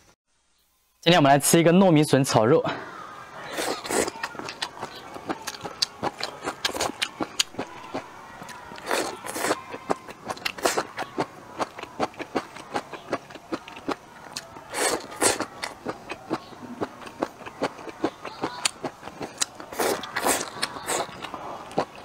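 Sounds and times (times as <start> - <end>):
chewing and crunching: 3.4 - 22.0
slurping: 3.4 - 22.0.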